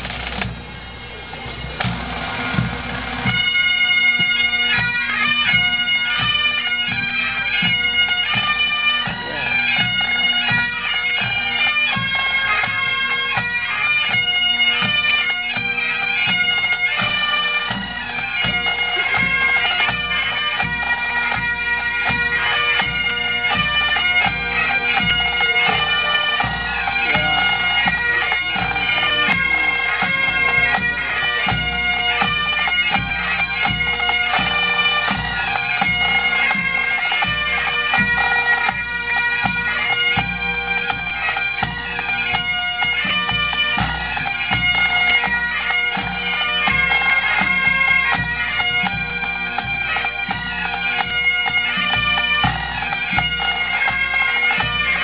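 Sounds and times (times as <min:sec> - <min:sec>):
bagpipes playing a tune: 0:00.0 - 0:55.0
band drums beating: 0:00.0 - 0:55.0.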